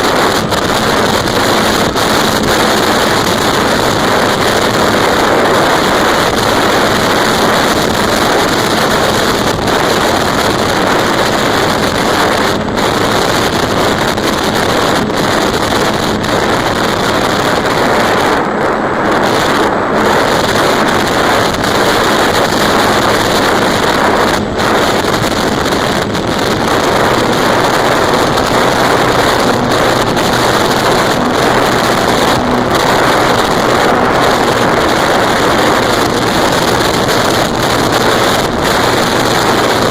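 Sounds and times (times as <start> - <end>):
model plane motor and propeller: 0.0 - 16.8, 19.2 - 39.9
wind rushing over microphone: 0.0 - 39.9.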